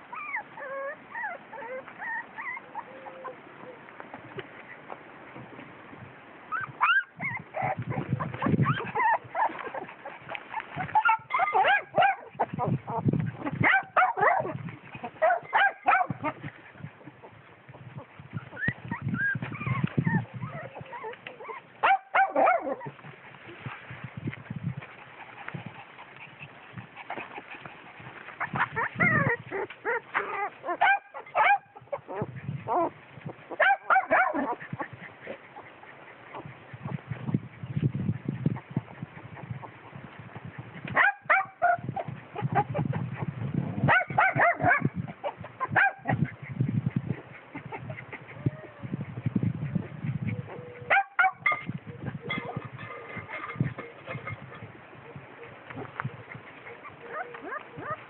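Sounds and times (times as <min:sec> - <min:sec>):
dog whimpering and yelping: 0:00.0 - 0:03.8, 0:06.5 - 0:23.1, 0:25.2 - 0:37.4, 0:38.1 - 0:58.0.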